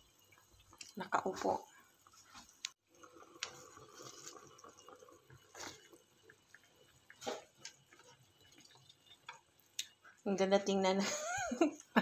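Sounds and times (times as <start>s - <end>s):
broth bubbling in a pan: 0.0s - 12.0s.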